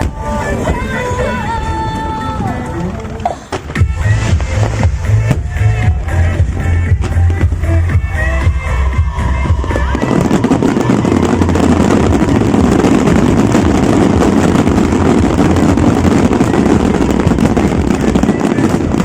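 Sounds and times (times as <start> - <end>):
fireworks crackling bangs: 0.0 - 19.0
heavy low rumble: 0.0 - 19.0.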